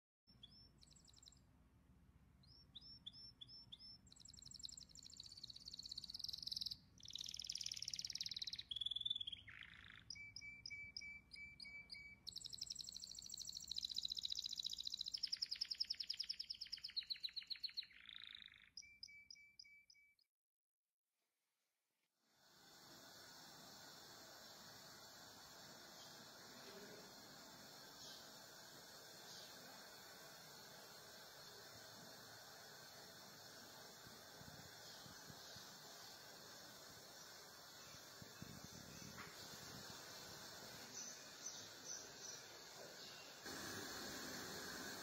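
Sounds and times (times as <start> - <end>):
songbird singing: 0.3 - 1.5, 2.4 - 20.3, 24.4 - 45.0.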